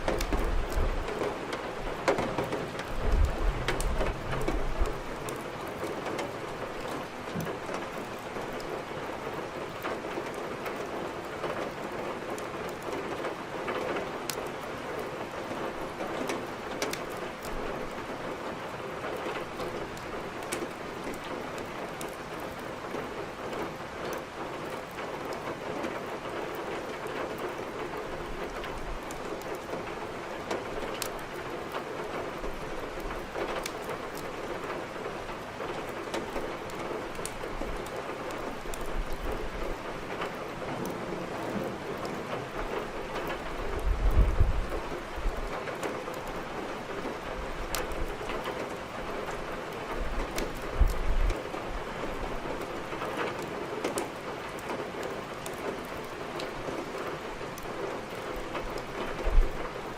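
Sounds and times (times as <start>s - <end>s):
wood fire crackling: 0.0s - 13.0s, 14.2s - 22.7s, 26.4s - 59.9s
steady rain falling: 0.0s - 59.9s.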